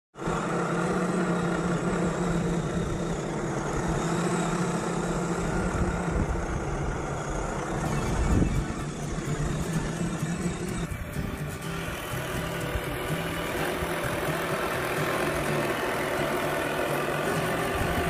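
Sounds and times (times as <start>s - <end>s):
toy car motor hum: 0.2s - 18.0s.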